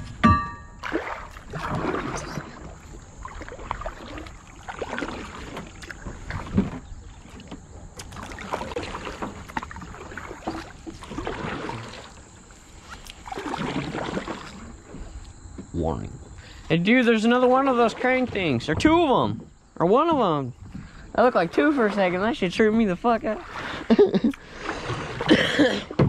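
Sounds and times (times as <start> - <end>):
paddle splashing water: 0.7 - 15.3, 16.5 - 26.0.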